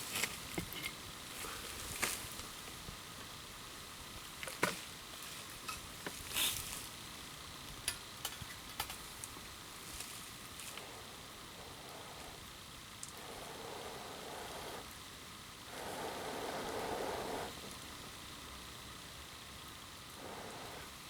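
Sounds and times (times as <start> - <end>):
fire hissing: 0.0 - 21.0.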